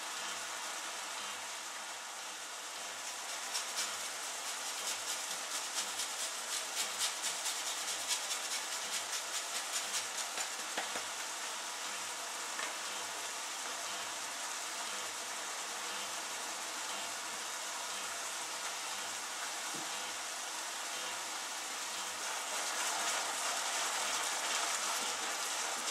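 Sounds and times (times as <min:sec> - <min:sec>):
chicken simmering hiss: 0:00.0 - 0:25.9.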